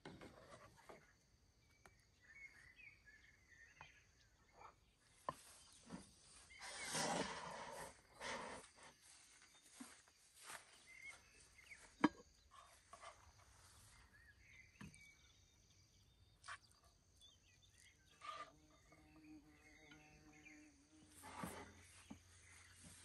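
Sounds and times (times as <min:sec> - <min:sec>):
faint chirps: 0:00.4 - 0:23.0.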